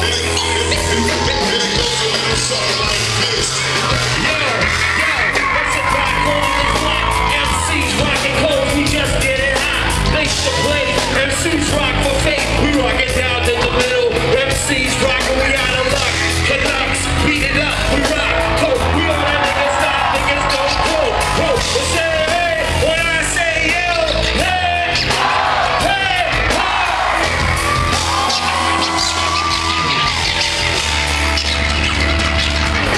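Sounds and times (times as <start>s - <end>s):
drum beat: 0.0s - 32.9s
heavy bass line: 0.0s - 32.9s.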